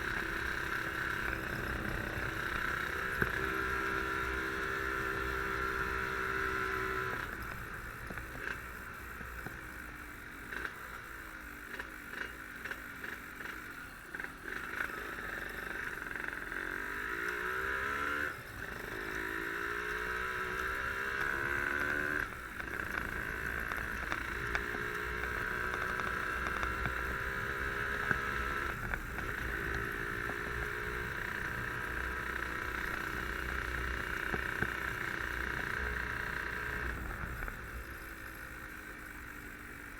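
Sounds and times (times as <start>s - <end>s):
wind and road noise: 0.0s - 13.5s, 14.2s - 39.9s
motorcycle engine under load: 0.0s - 39.9s.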